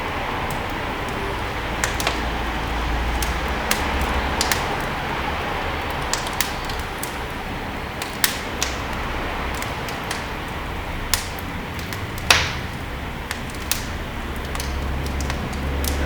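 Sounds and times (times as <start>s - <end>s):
flames hissing: 0.0s - 16.0s
logs crackling and popping: 0.0s - 16.0s.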